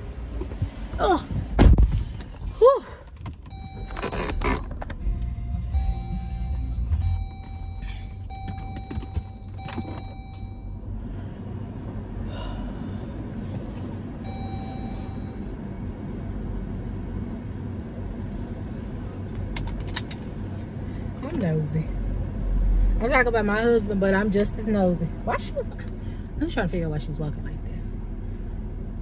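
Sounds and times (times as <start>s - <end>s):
car cabin engine rumble: 0.0s - 29.0s.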